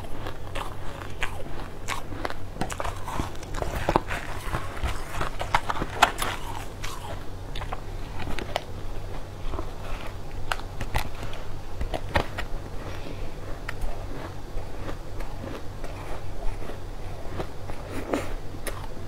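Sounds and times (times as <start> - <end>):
crunching ice being chewed: 0.0 - 19.0.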